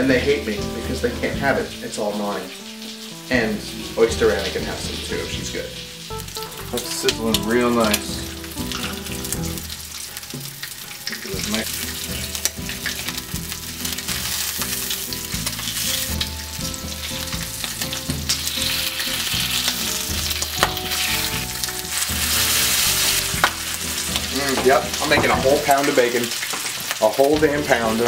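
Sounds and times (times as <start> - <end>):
bacon sizzling in a skillet: 0.0 - 28.0.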